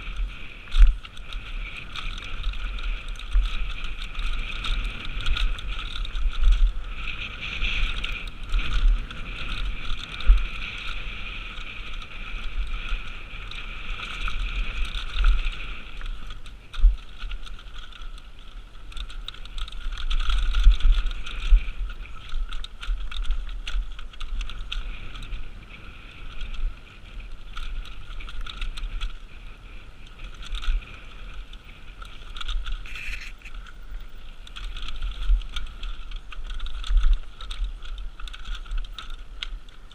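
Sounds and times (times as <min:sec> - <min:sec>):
bike tyres rolling over dirt: 0:00.0 - 0:39.9.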